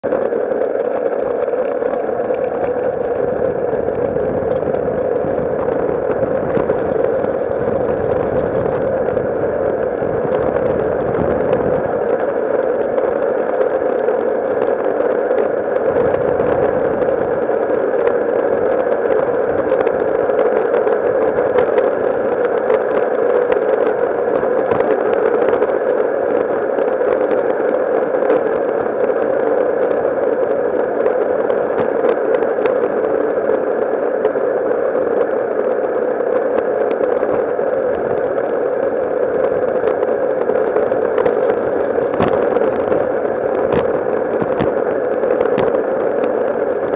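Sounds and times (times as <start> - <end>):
wheels rolling on concrete: 0.0 - 46.9.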